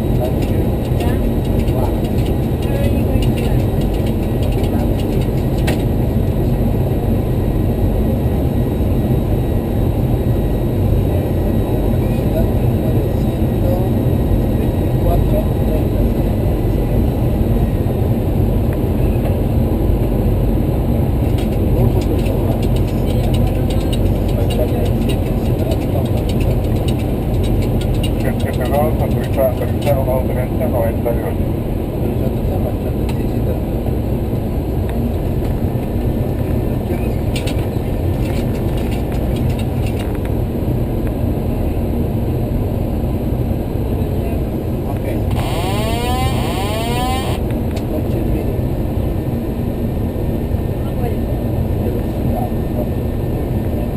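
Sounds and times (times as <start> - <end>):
airliner cockpit rumble: 0.0 - 53.9.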